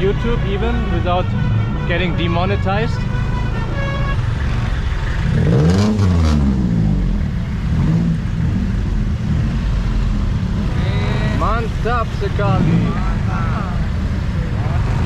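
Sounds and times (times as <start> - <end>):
traffic engines rumbling: 0.0 - 15.0
vehicle engine revving: 0.0 - 15.0.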